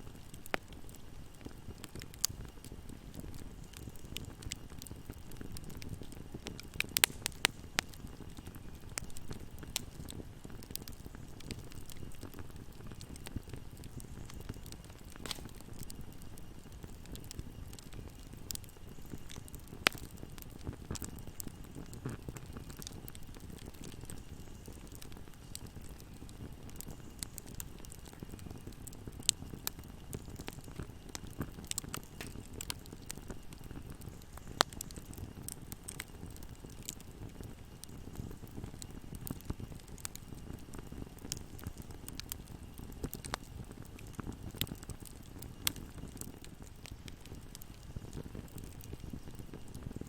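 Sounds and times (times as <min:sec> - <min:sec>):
low fire rumble: 0:00.0 - 0:50.0
wood fire crackling and popping: 0:00.0 - 0:50.0.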